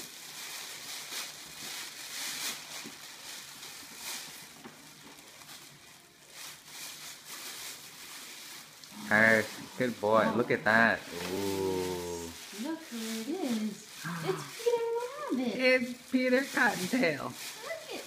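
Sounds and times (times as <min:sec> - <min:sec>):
tissue paper rustling: 0:00.0 - 0:18.0.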